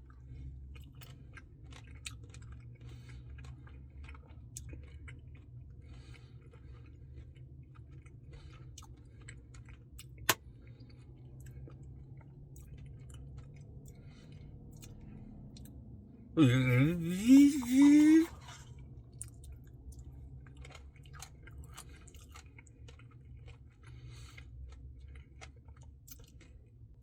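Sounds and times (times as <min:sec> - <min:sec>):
close chewing: 0:00.0 - 0:27.0
low steady hum: 0:00.0 - 0:27.0.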